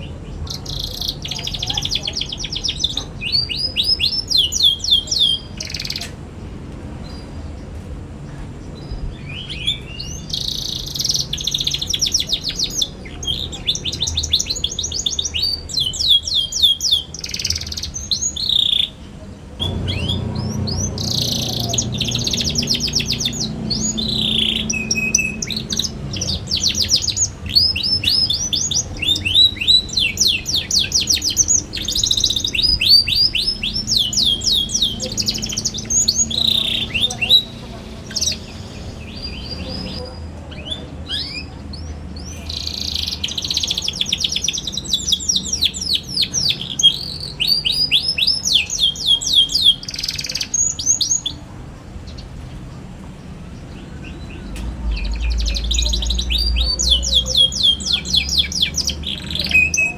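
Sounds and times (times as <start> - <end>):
canary singing chirps and trills: 0.0 - 6.2, 8.6 - 59.9.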